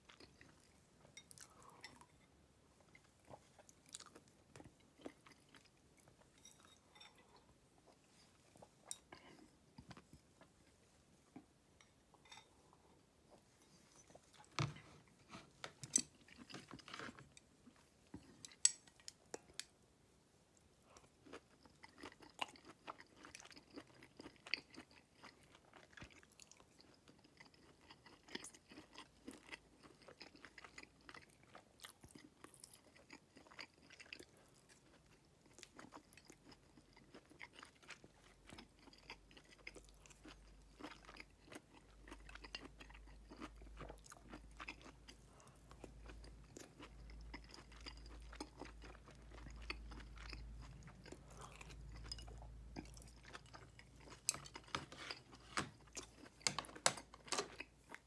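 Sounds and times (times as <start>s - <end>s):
person chewing: 0.0s - 2.2s, 2.8s - 10.5s, 13.4s - 19.6s, 20.8s - 58.0s.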